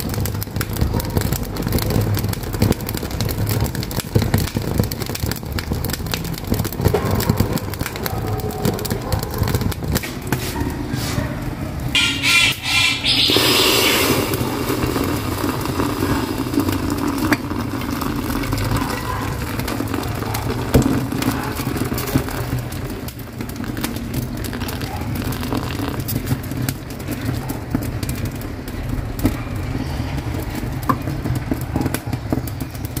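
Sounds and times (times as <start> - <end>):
low rumble of flames: 0.0 - 33.0
wood fire crackling and popping: 0.0 - 33.0.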